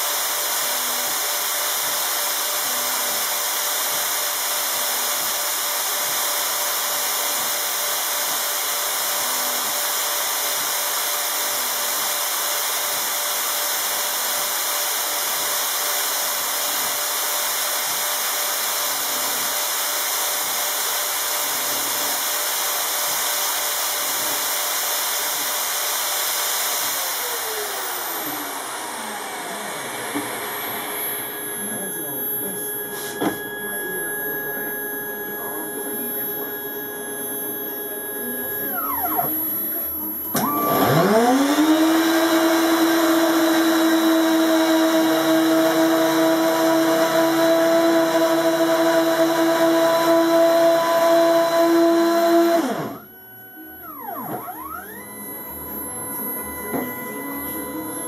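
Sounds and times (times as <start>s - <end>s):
electric motor whirring: 0.0s - 58.0s.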